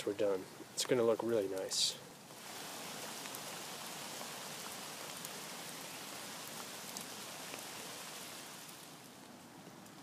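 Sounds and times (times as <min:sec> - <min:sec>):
steady rain hiss: 0:00.0 - 0:10.0.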